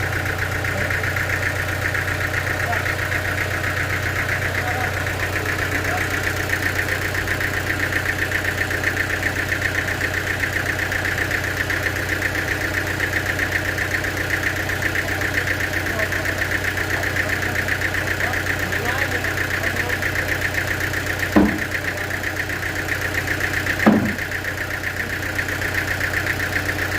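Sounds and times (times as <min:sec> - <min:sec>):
sawmill machinery droning: 0:00.0 - 0:26.9.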